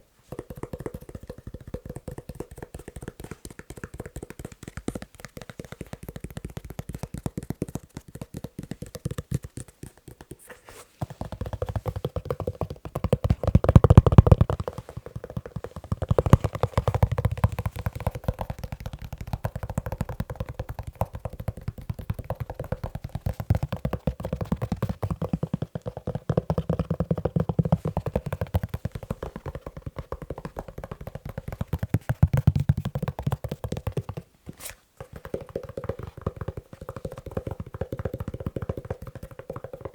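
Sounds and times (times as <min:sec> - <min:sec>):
fast tapping on leather shoe: 0:00.3 - 0:10.4, 0:11.0 - 0:34.3, 0:35.0 - 0:39.9.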